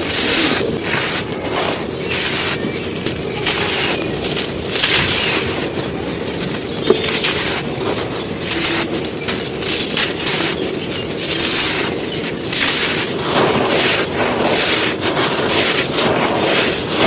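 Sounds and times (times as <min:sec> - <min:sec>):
dry sand shapes crunching: 0:00.0 - 0:17.0.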